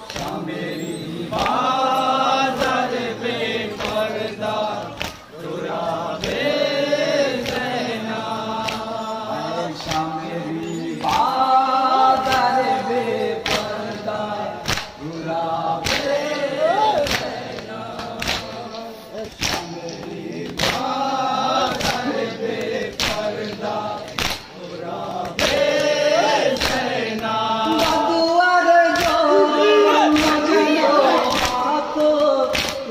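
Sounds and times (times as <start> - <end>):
hands slapping chests: 0.0 - 0.6, 1.3 - 5.3, 6.1 - 9.0, 9.6 - 10.3, 11.0 - 16.3, 16.9 - 28.1, 28.9 - 29.3, 30.1 - 32.9
men chanting a lament: 0.0 - 32.9.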